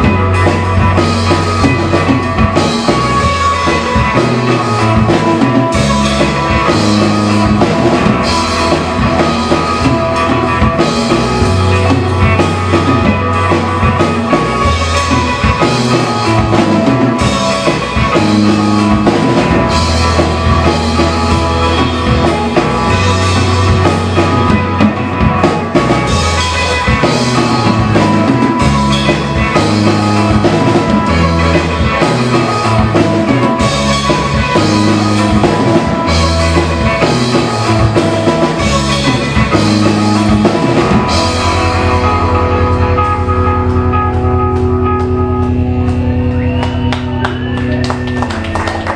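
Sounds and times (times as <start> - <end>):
held bass notes: 0.0 - 48.9
rock band playing loud: 0.0 - 48.9.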